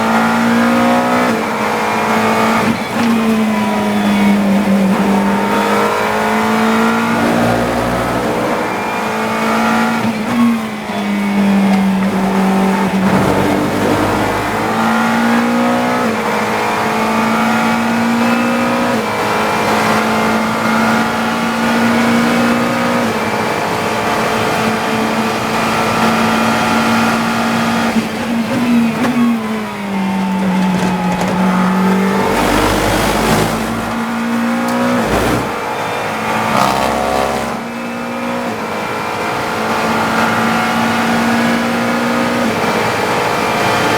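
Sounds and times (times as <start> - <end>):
race car engine with gear changes: 0.0 - 43.9.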